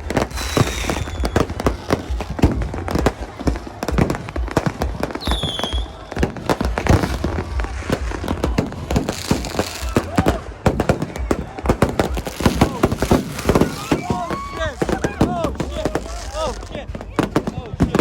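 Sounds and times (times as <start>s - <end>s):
firecrackers banging and popping: 0.0s - 18.0s
whistling firework: 0.0s - 18.0s.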